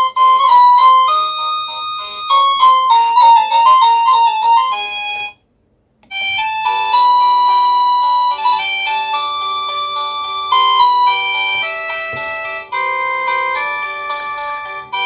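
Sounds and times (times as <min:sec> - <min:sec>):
electronic doorbell chime tunes: 0:00.0 - 0:05.3, 0:06.1 - 0:15.0.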